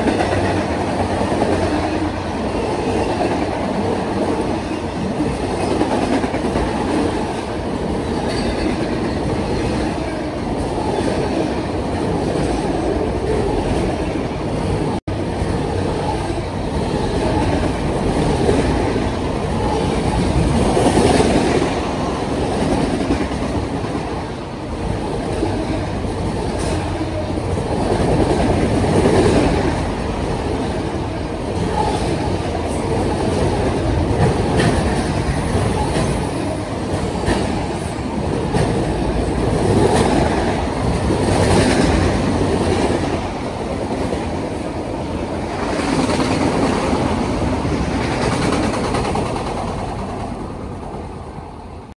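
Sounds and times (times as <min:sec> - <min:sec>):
freight train rolling past: 0:00.0 - 0:51.9.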